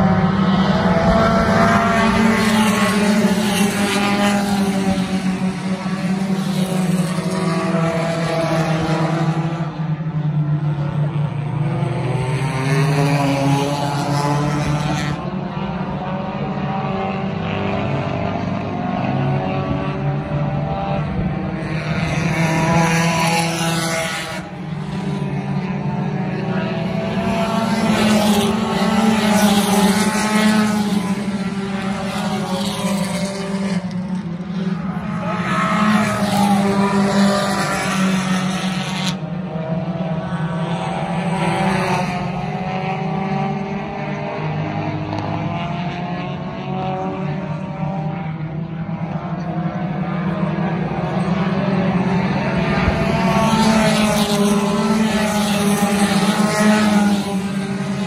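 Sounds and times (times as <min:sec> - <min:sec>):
race car engines running hard: 0:00.0 - 0:58.0.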